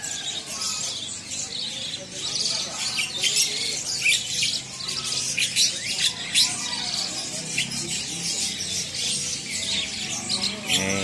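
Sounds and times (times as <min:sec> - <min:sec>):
caged birds chirping and squawking: 0:00.0 - 0:11.0.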